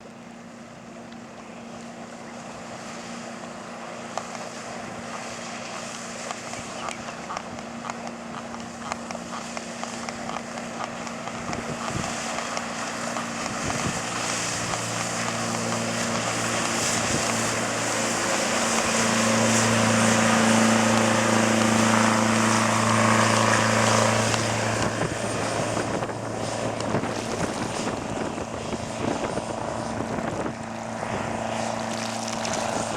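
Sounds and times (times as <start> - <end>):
boat diesel engine droning: 0.0 - 32.9.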